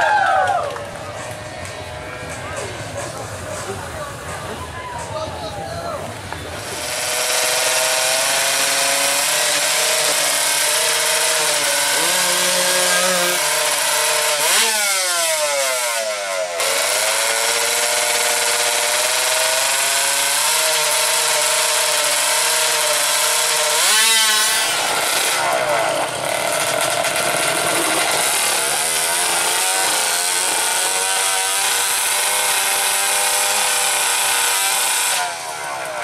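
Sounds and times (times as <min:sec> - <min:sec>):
motorcycle engines revving high: 0:00.0 - 0:36.0.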